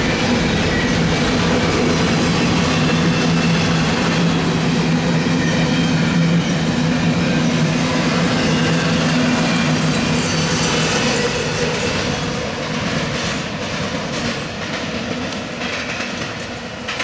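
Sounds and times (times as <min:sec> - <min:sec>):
train wheels clicking over rail joints: 0:00.2 - 0:17.0.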